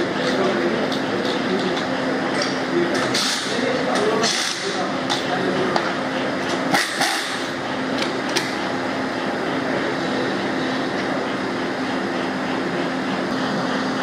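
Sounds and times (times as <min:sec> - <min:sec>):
factory machinery hum: 0:00.0 - 0:14.0.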